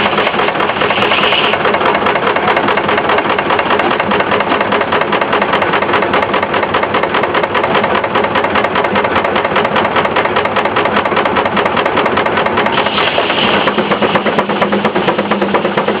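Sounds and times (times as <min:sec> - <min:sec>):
steam engine exhaust beating: 0:00.0 - 0:16.0.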